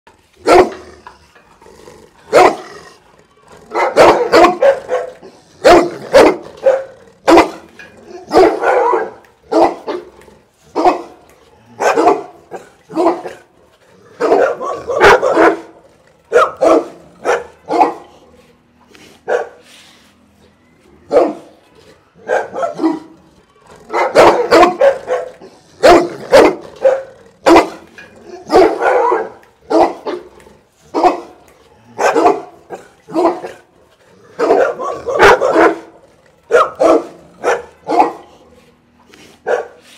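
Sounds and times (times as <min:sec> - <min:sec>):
dogs barking loudly: 0:00.3 - 0:01.2, 0:02.1 - 0:03.0, 0:03.7 - 0:18.2, 0:19.2 - 0:19.7, 0:21.1 - 0:21.6, 0:22.2 - 0:38.5, 0:39.2 - 0:39.9.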